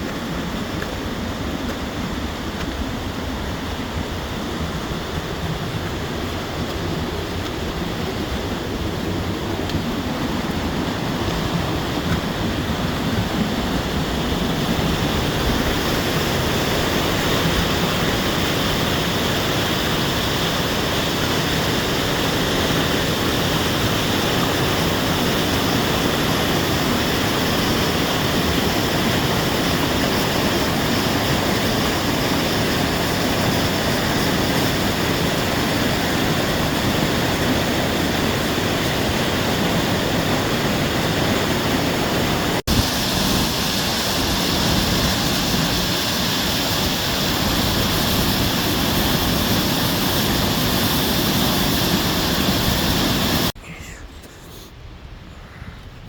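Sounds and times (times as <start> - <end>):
waterfall rushing: 0.0 - 53.6.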